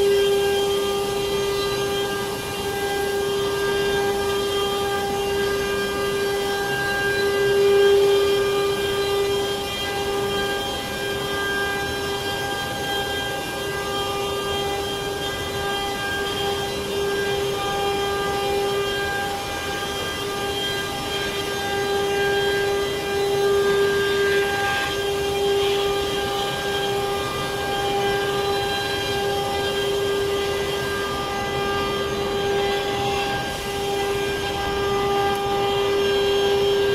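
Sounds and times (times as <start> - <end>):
machine cutting wood: 0.0 - 36.9
router spindle whine: 0.0 - 36.9.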